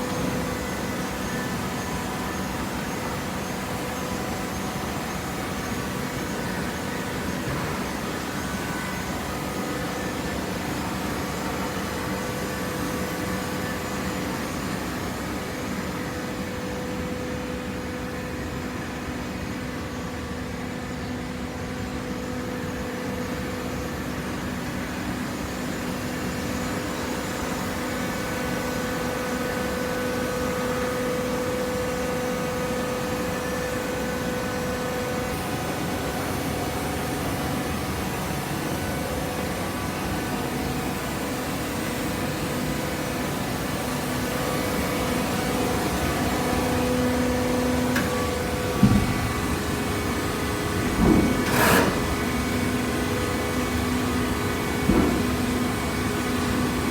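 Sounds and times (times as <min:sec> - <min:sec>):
machinery humming: 0:00.0 - 0:56.9.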